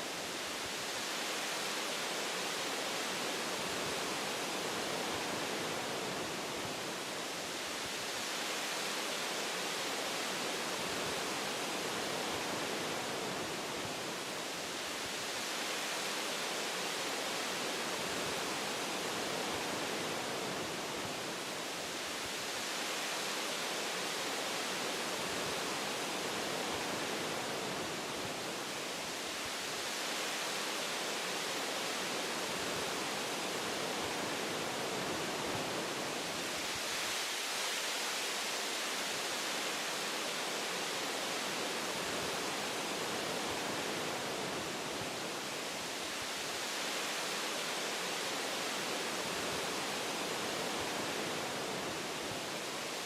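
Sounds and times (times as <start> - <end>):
wind through tree branches: 0.0 - 53.0.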